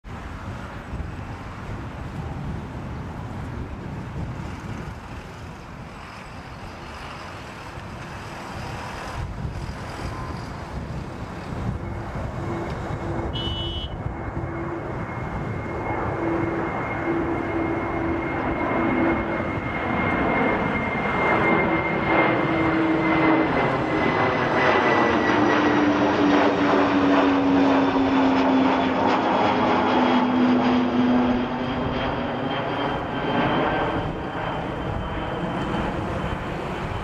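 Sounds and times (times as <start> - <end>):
jet aircraft rushing noise: 0.0 - 37.0
high engine whine: 0.1 - 37.0.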